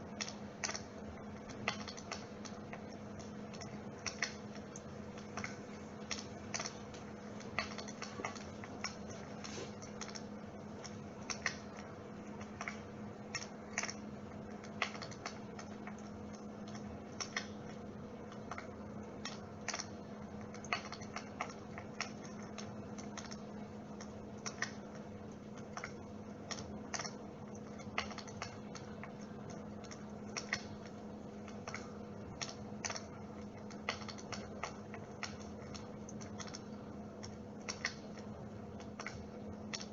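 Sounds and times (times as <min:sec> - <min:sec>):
electric fireplace hum: 0:00.0 - 0:39.9
crackling clicks: 0:00.1 - 0:39.9.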